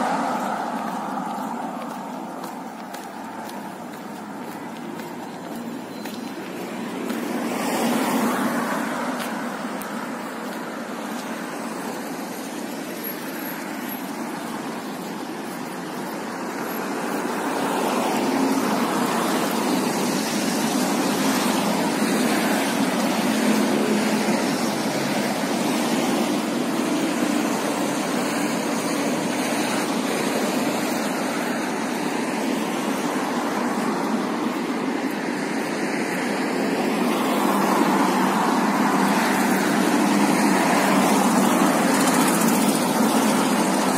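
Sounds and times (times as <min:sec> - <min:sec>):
road noise hiss: 0:00.0 - 0:43.9
vehicles passing: 0:00.0 - 0:43.9.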